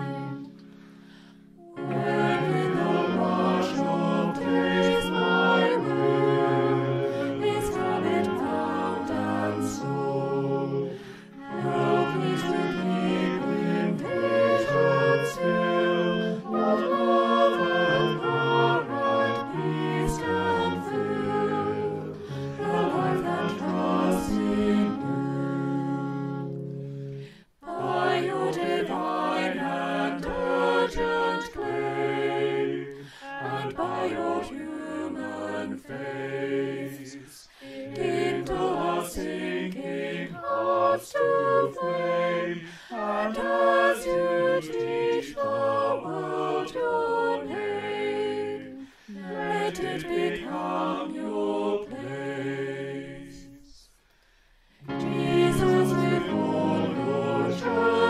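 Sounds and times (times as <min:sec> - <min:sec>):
choir singing a hymn: 0:00.0 - 0:53.9, 0:54.8 - 0:58.0.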